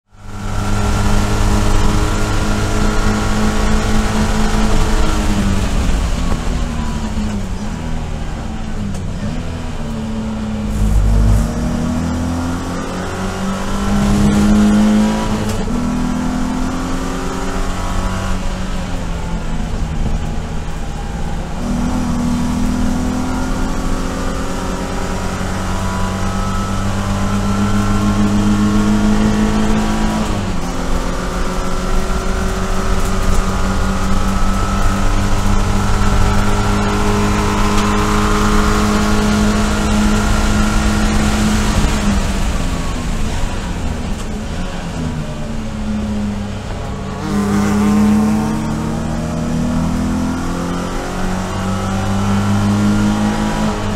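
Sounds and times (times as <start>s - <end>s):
race car engine: 0.0s - 53.9s.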